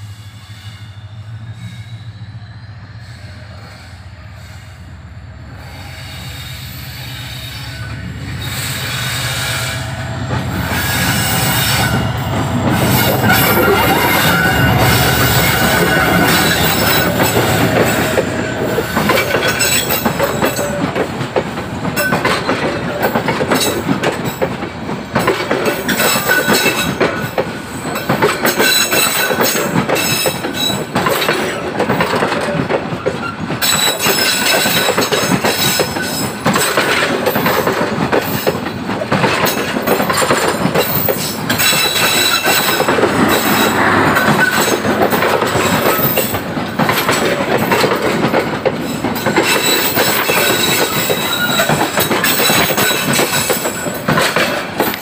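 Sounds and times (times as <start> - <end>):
diesel locomotive engine rumble: 0.0 - 55.0
train rolling rumble: 0.0 - 55.0
wheels squealing on rails: 0.0 - 55.0
train wheels clacking: 5.6 - 55.0.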